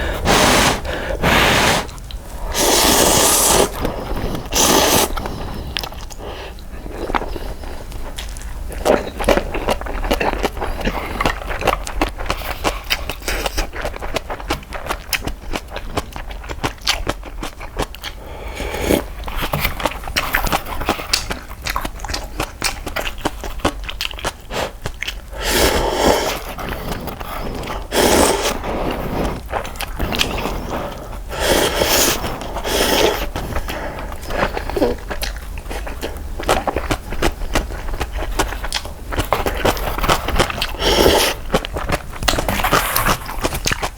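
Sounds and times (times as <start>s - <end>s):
wet chewing of noodles: 0.0s - 43.9s.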